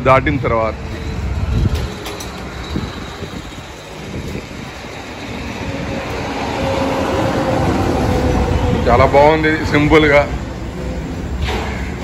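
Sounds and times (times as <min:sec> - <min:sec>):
heavy vehicle approaching: 0:00.0 - 0:12.0
road traffic rumble: 0:00.0 - 0:12.0.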